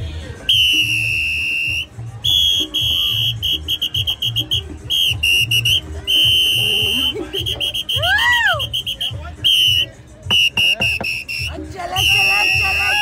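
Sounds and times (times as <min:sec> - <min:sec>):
music with bass beat: 0:00.0 - 0:13.0
whistle blasts: 0:00.5 - 0:13.0.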